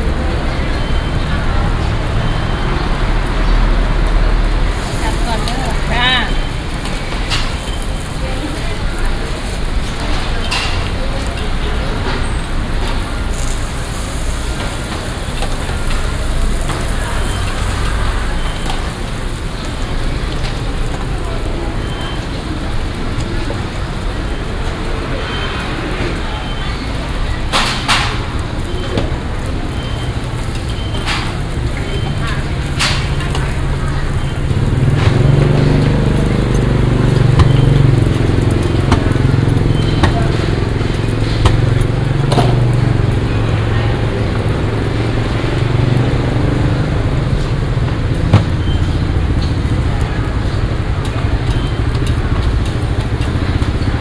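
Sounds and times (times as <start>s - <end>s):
street noise: 0.0s - 54.0s
flatbread sizzling in oil: 0.4s - 54.0s.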